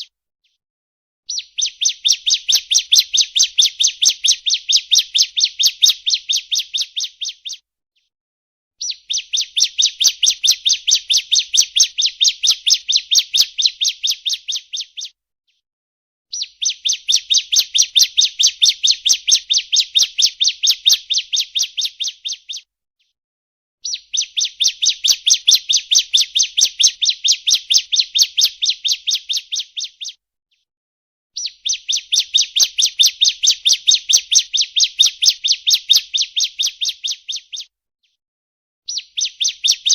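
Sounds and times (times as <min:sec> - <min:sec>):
bird chirping rapidly: 0:01.3 - 0:07.6, 0:08.8 - 0:15.1, 0:16.3 - 0:22.6, 0:23.8 - 0:30.2, 0:31.4 - 0:37.7, 0:38.9 - 0:39.9.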